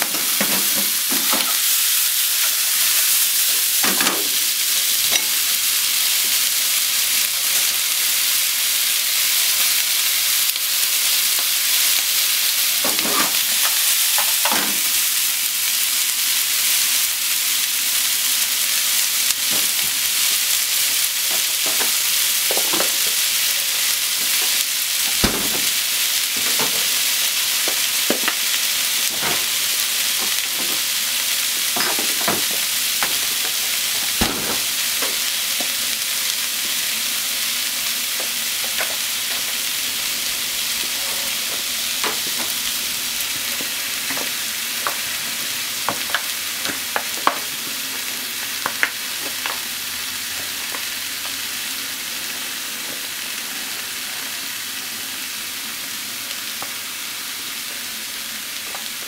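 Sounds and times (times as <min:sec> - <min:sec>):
food frying in oil: 0:00.0 - 0:59.0.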